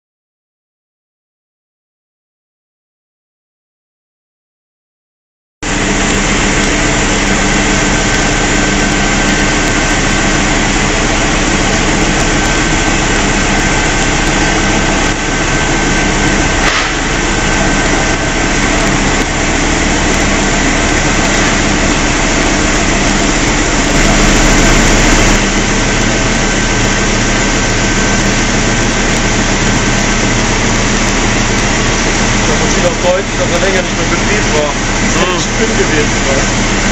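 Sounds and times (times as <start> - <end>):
piston air compressor running: 5.6 - 36.9.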